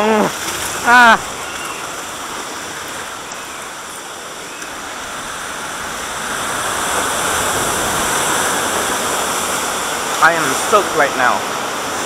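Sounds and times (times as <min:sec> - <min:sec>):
whitewater roaring: 0:00.0 - 0:12.0.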